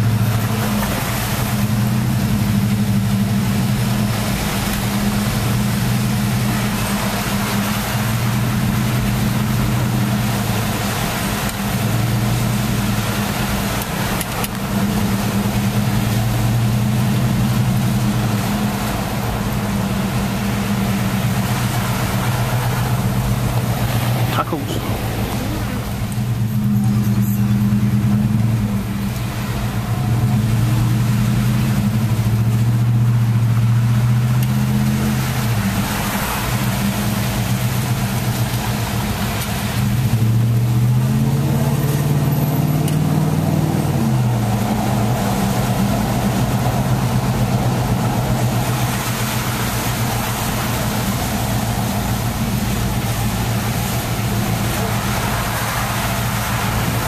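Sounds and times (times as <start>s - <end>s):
car engine from inside cabin: 0.0s - 57.0s
tyre hiss on wet road: 0.0s - 57.0s.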